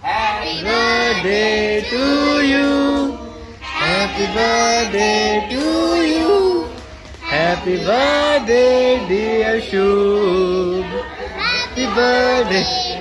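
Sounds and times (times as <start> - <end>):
people singing: 0.0 - 13.0.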